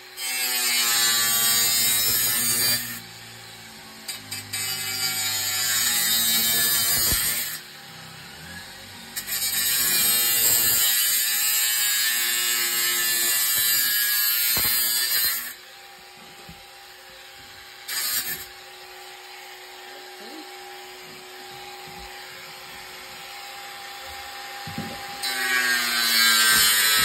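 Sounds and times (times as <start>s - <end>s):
angle grinder cutting pipe: 0.0s - 27.0s.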